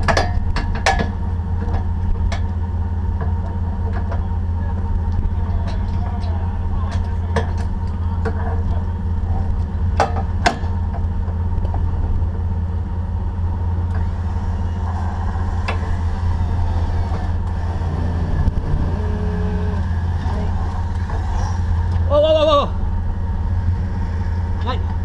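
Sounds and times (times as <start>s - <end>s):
vehicle engine running at low revs: 0.0s - 25.0s.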